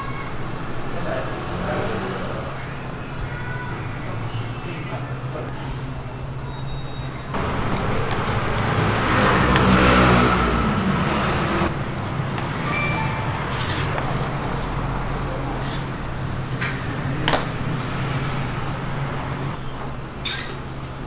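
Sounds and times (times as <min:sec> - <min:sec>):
vehicle passing: 0:00.5 - 0:06.4, 0:07.2 - 0:19.6.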